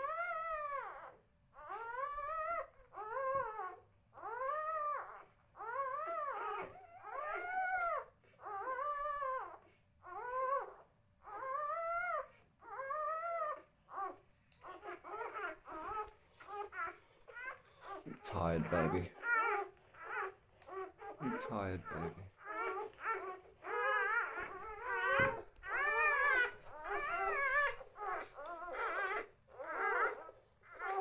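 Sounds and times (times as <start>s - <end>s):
puppy whining: 0.0s - 31.0s.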